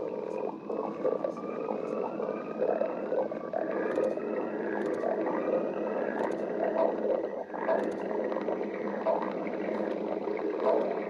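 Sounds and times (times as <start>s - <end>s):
stomach growling: 0.0s - 11.0s.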